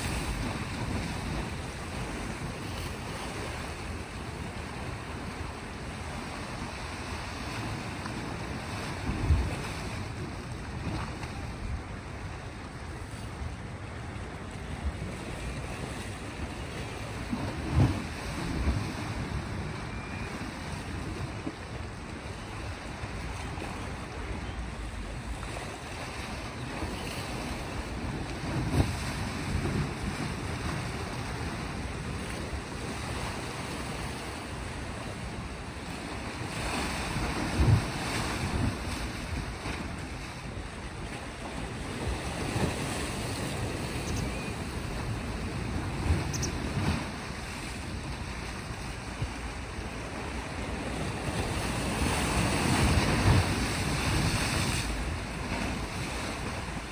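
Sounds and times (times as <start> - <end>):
waves washing against rocks: 0.0 - 56.9
wind noise on microphone: 0.0 - 56.9.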